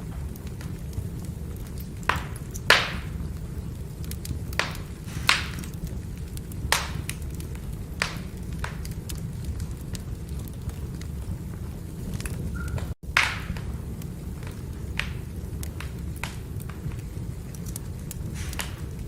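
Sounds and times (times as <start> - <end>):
fire rumbling: 0.0 - 19.0
firewood crackling and popping: 0.0 - 19.0.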